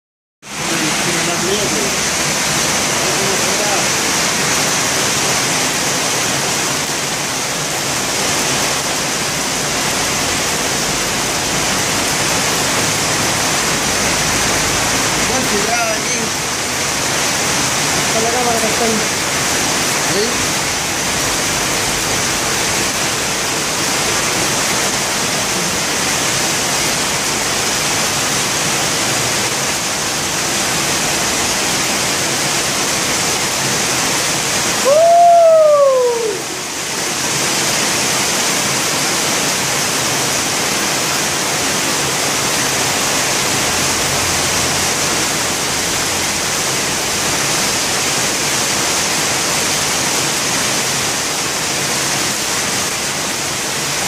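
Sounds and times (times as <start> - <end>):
heavy rain pouring: 0.4 - 54.0.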